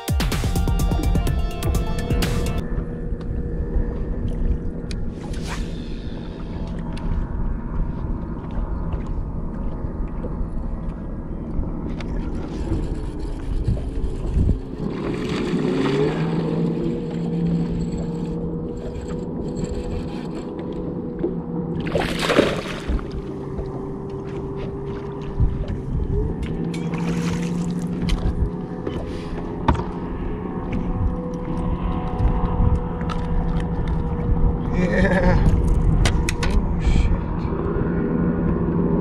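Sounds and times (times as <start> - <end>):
electric trolling motor humming: 1.4 - 39.0
rushes of noise: 2.6 - 39.0.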